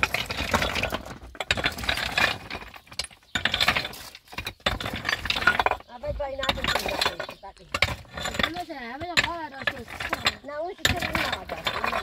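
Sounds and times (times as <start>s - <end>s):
hard objects clattering together: 0.0s - 12.0s.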